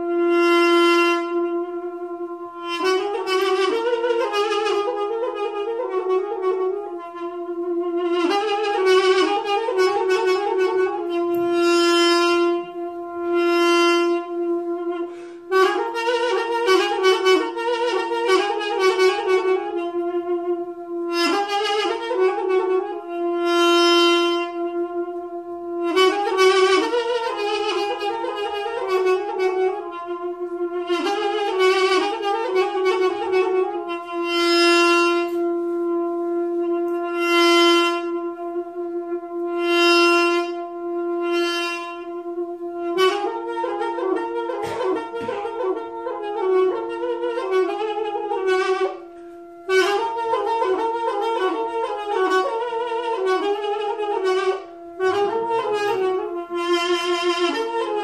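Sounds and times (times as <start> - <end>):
reedy wind instrument melody: 0.0 - 58.0
steady drone note: 0.0 - 58.0.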